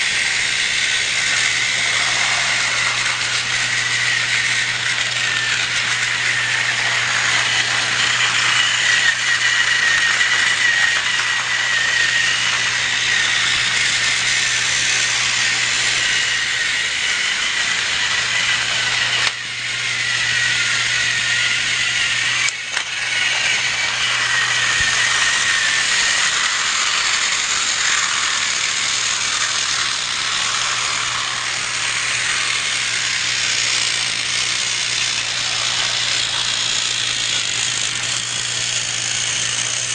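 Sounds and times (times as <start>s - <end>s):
toy train motor whirring: 0.0s - 39.9s.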